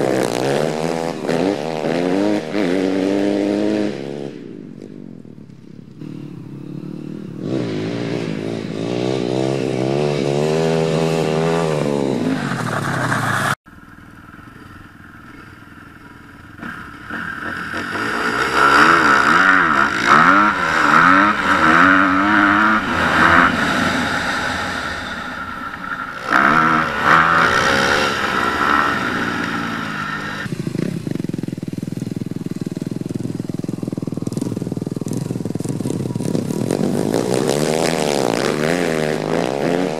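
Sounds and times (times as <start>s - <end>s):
dirt bike engine revving: 0.0s - 4.8s, 5.9s - 39.9s.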